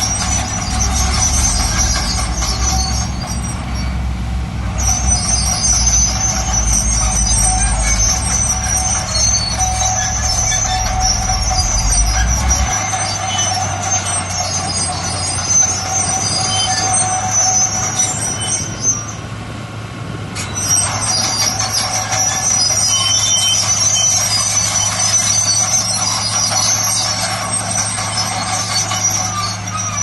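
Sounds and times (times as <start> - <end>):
crawler tracks squealing: 0.0 - 19.4, 20.3 - 30.0
diesel engine drone: 0.0 - 30.0.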